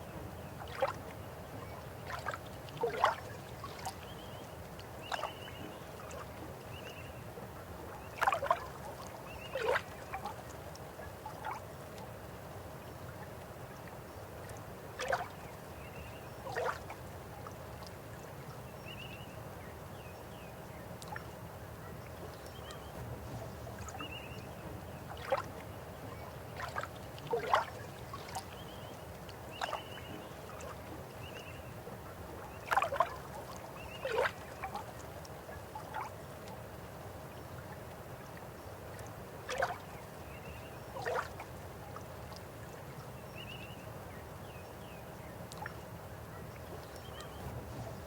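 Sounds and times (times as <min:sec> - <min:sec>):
river water running: 0:00.0 - 0:48.0.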